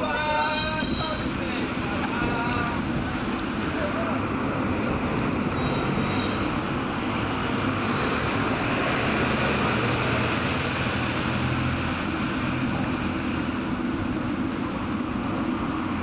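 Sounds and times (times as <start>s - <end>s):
road traffic noise: 0.0s - 16.0s
vehicle engine hum: 0.8s - 16.0s.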